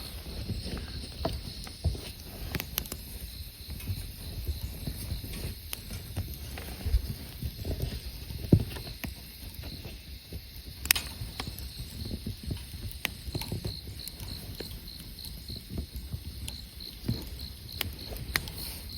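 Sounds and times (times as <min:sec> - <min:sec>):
campfire crackling: 0:00.0 - 0:18.9
insects chirping: 0:00.0 - 0:18.9.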